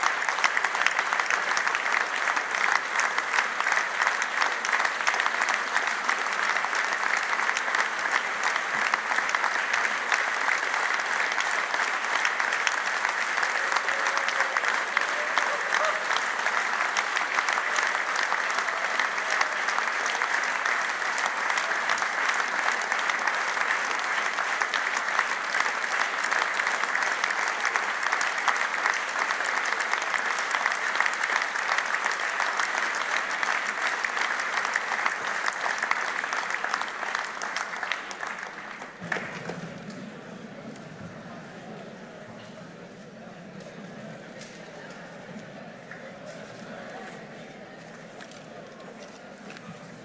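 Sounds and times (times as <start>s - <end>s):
audience applauding: 0.0s - 42.1s.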